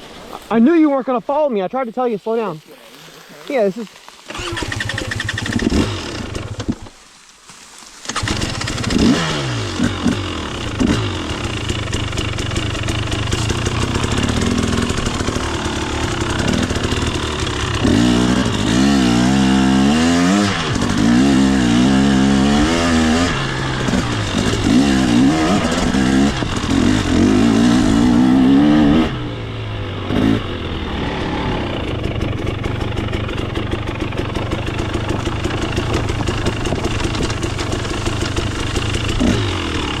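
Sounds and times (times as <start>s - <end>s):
dirt bike engine revving: 4.3s - 6.9s, 8.0s - 40.0s.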